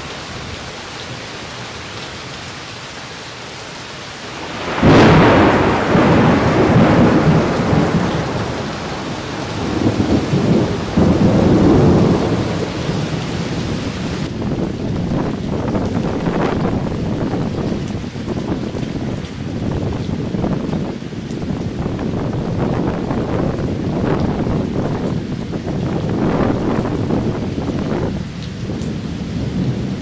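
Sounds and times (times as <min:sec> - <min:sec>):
steady rain falling: 0:00.0 - 0:30.0
thunder crack and rumble: 0:04.4 - 0:30.0.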